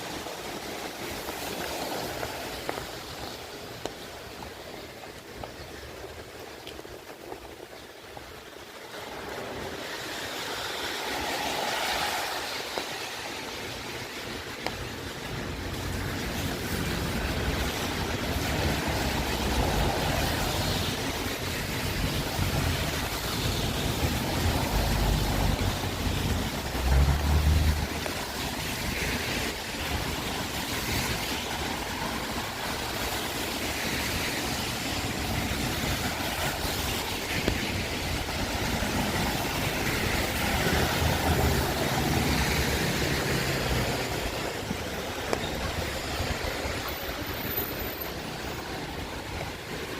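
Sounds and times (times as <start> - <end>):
rain on wet street: 0.0 - 49.9
wind gusting on microphone: 0.0 - 49.9.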